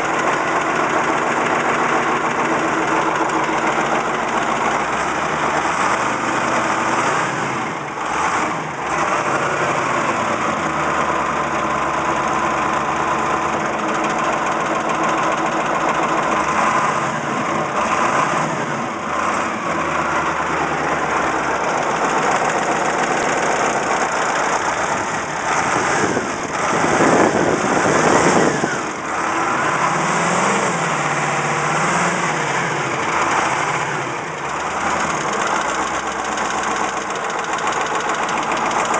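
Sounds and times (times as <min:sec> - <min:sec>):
diesel engine running: 0:00.0 - 0:38.9
engine rattle: 0:00.0 - 0:38.9.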